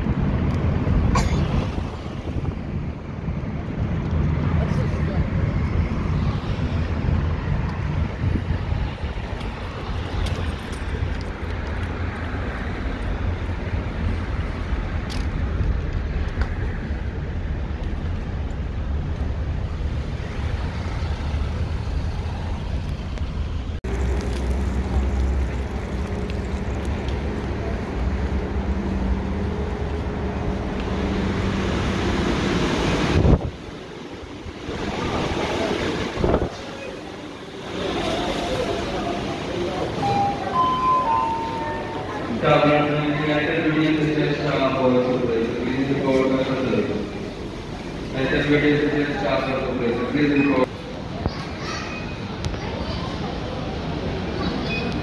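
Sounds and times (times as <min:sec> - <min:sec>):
cars driving past: 0:00.1 - 0:51.0.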